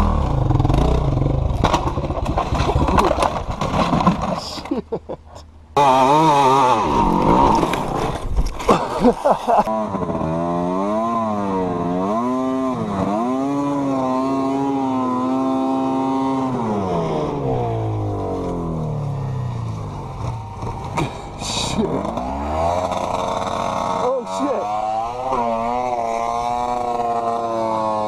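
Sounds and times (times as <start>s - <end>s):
off-road vehicle engine revving: 0.0s - 3.2s, 5.8s - 8.2s, 9.6s - 28.0s.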